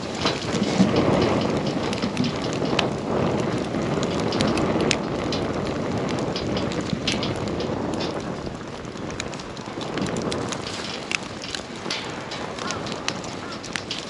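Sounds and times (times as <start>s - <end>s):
burning wood crackling and popping: 0.0s - 14.0s
campfire flames rushing: 0.0s - 14.0s.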